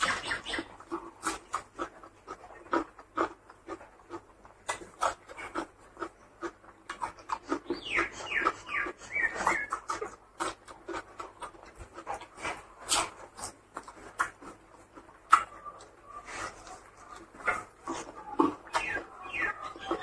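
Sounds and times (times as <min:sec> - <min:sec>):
wet chewing and lip-smacking: 0:00.0 - 0:20.0.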